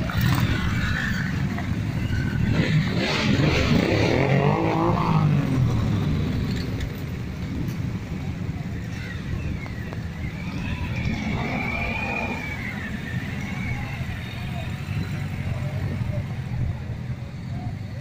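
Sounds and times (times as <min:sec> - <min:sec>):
motorcycles riding past: 0:00.0 - 0:18.0.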